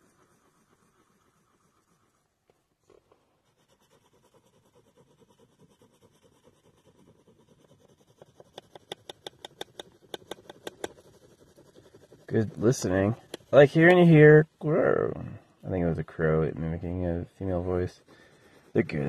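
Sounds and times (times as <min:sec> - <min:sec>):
drawing stick scratching on paper: 0:00.0 - 0:14.7, 0:15.4 - 0:19.0.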